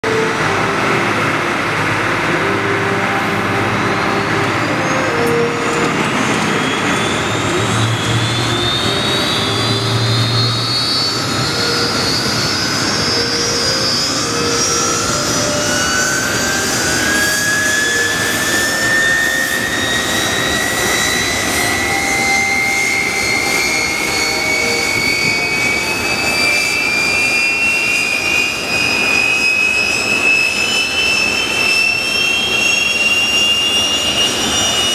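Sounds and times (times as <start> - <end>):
jet engine whine rising: 0.0 - 34.9
jet rumble: 0.0 - 34.9.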